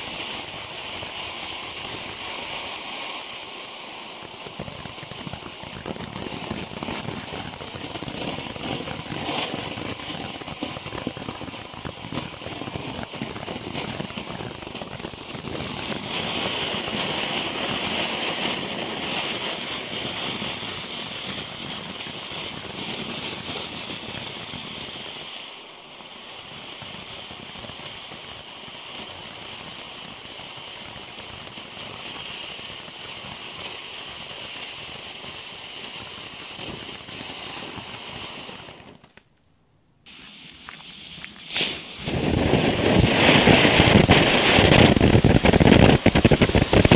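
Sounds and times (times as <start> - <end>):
fountain fireworks hissing and crackling: 0.0 - 39.3, 40.0 - 46.9.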